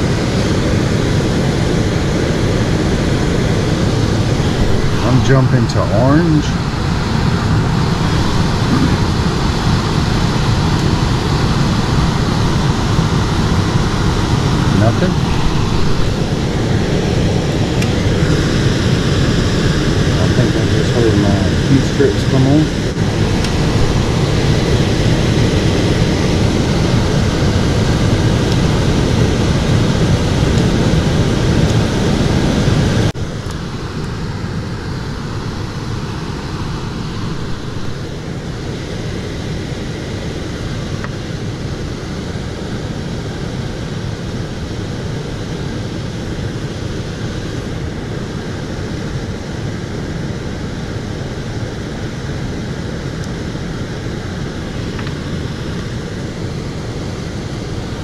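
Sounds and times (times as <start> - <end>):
air handler fan rushing: 0.0 - 58.0.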